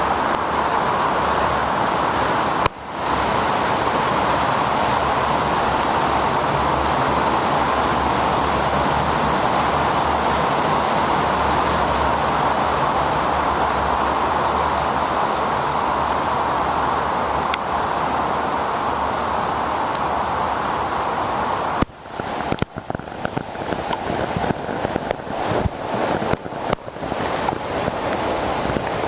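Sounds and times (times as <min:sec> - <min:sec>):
bicycle road noise on wet streets: 0:00.0 - 0:29.0
rushing wind: 0:00.0 - 0:29.0.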